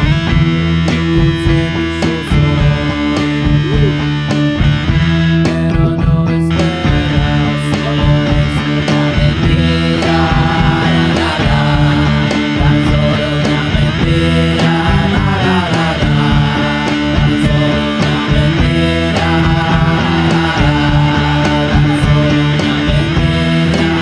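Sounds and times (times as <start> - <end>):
bass guitar notes: 0.0 - 24.0
electric guitars: 0.0 - 24.0
steady drum beat: 0.0 - 24.0.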